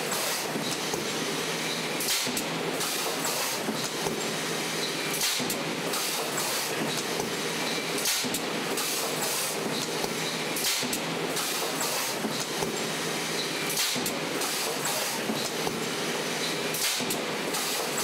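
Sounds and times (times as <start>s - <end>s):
industrial machinery running: 0.0s - 18.0s.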